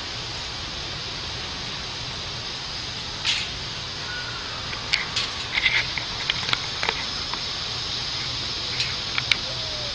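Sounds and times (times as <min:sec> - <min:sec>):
steady hissing: 0:00.0 - 0:09.9.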